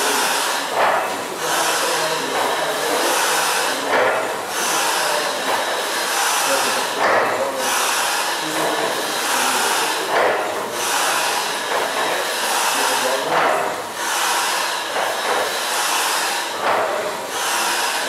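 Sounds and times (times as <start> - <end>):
steam engine hissing and pulsing: 0.0 - 18.0.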